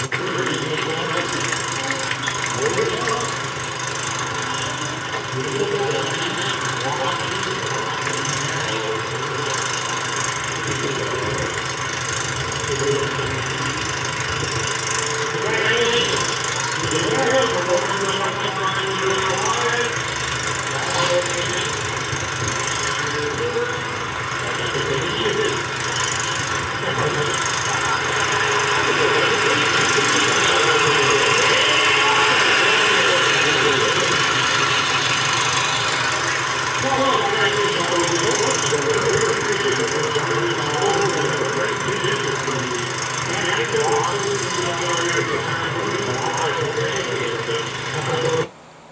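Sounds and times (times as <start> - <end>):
engine running hum: 0.0 - 48.9
videotape hiss and squeal: 0.0 - 48.9.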